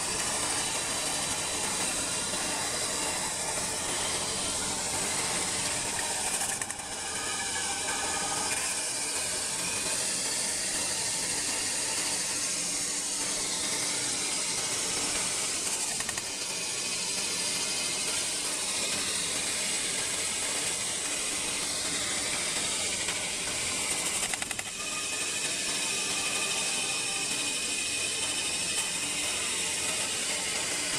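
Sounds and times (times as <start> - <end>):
machine running: 0.0 - 30.9
spinning metal hissing: 0.0 - 30.9.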